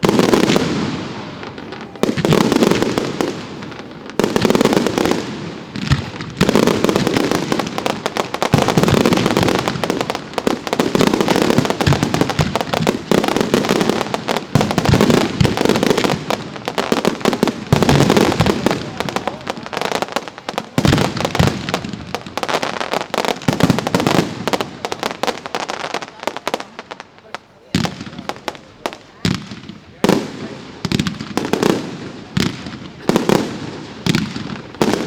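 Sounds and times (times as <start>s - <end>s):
fireworks crackling bursts: 0.0s - 35.0s.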